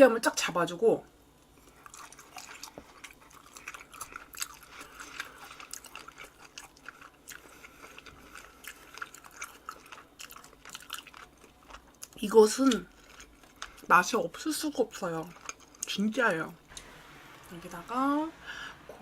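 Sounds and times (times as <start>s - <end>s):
soft chewing: 1.4s - 16.9s.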